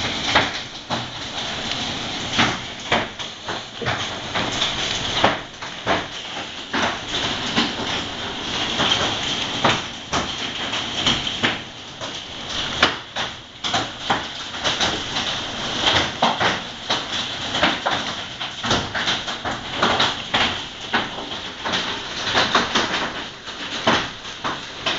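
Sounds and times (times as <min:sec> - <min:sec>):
hail rushing hiss: 0:00.0 - 0:24.9
hailstones knocking hard surfaces: 0:00.0 - 0:24.9.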